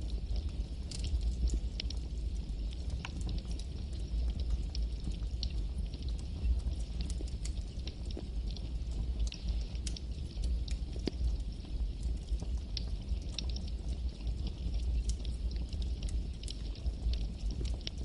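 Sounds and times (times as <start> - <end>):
burning wood crackling: 0.0 - 18.0
flames rumbling and hissing: 0.0 - 18.0.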